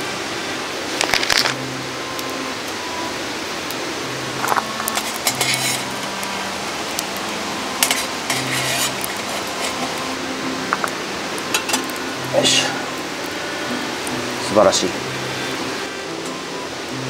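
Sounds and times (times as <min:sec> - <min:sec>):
steady hiss: 0:00.0 - 0:17.0
wood fire crackling: 0:00.0 - 0:17.0.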